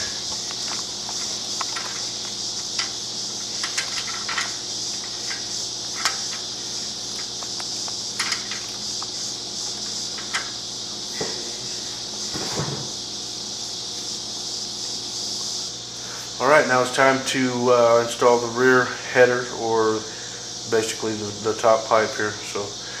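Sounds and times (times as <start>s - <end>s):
background hiss: 0.0s - 23.0s.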